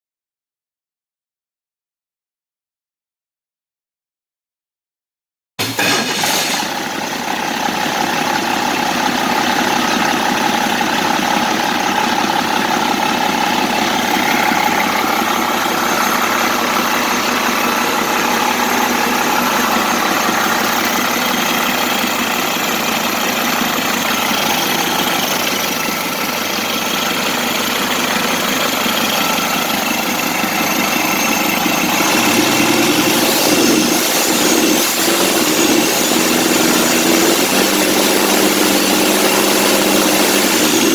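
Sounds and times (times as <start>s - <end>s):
diesel engine idling: 5.6s - 40.9s.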